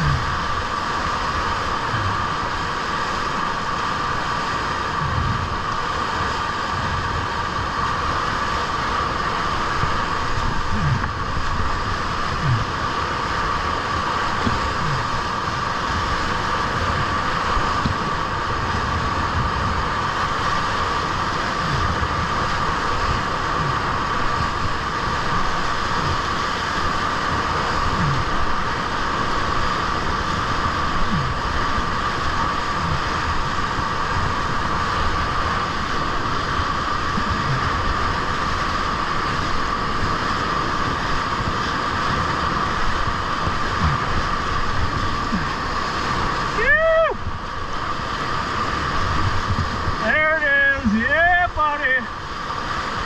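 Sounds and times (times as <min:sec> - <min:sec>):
whitewater rushing: 0:00.0 - 0:53.0.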